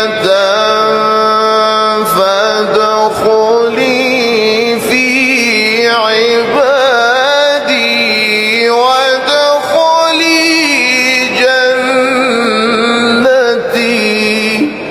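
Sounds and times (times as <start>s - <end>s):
man singing a chant: 0.0s - 14.9s.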